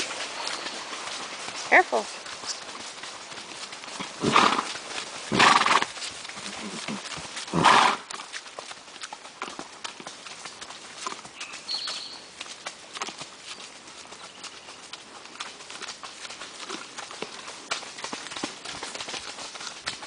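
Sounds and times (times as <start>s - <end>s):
horse hooves clopping on mud: 0.0s - 20.0s.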